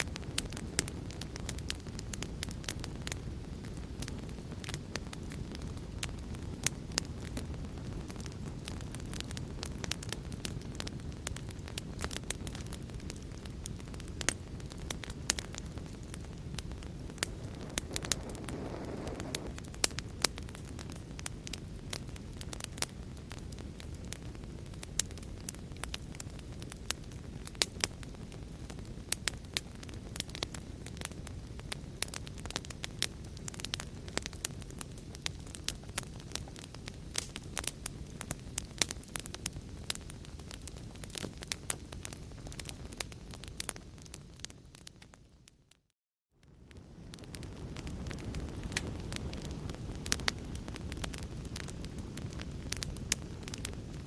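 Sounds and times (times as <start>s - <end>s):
fire low rumble: 0.0s - 45.8s, 46.4s - 54.0s
wood fire crackling: 0.0s - 54.0s.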